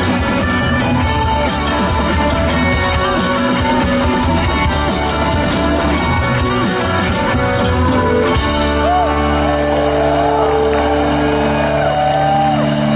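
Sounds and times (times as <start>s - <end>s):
rock band with distorted guitars: 0.0s - 12.9s
sliding guitar tones: 0.0s - 12.9s.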